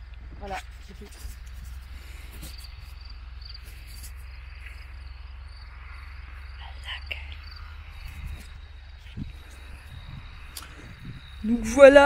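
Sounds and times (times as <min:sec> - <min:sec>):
insects chirping in high trills: 0:00.0 - 0:12.0
wind rumble on microphone: 0:00.0 - 0:12.0.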